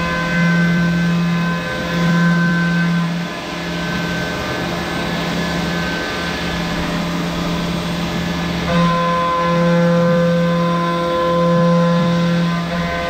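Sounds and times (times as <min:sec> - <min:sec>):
milling machine whine: 0:00.0 - 0:13.0.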